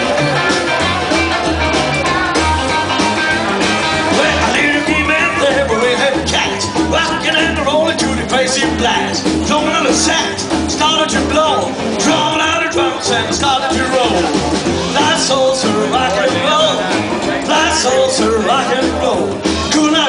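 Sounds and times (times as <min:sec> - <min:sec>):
acoustic rhythm guitar: 0:00.0 - 0:20.0
electric guitar: 0:00.0 - 0:20.0
upright double bass: 0:00.0 - 0:20.0.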